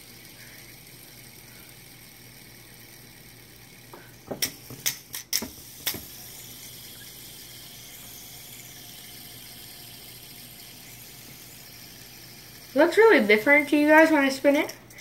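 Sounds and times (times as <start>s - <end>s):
fidget spinner clicks: 0.0s - 15.0s
fidget spinner whirring: 0.0s - 15.0s.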